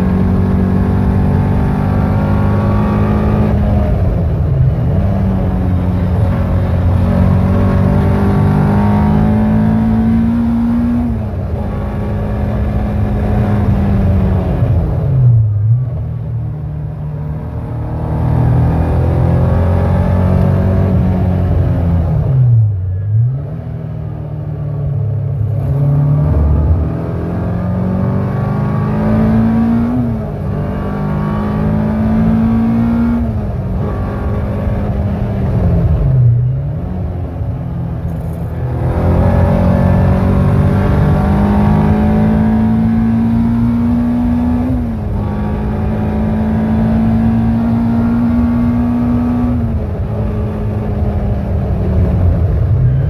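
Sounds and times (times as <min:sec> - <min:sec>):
car engine accelerating hard: 0:00.0 - 0:53.0.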